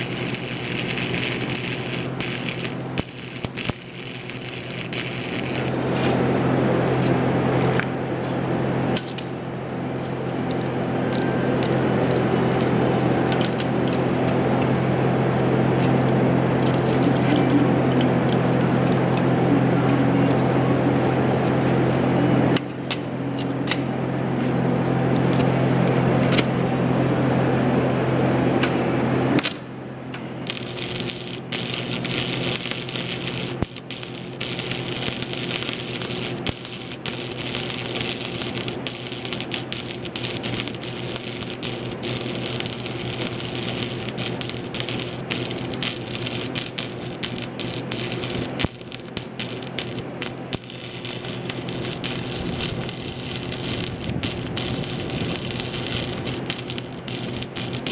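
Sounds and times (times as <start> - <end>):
arc welding crackle: 0.0 - 7.8, 9.0 - 22.6, 30.2 - 57.9.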